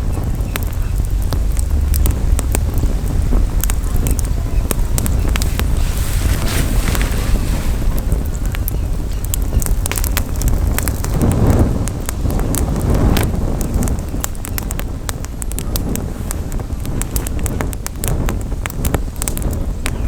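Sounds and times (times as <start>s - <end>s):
campfire crackling and popping: 0.0s - 20.0s
wind buffeting microphone: 0.0s - 20.0s.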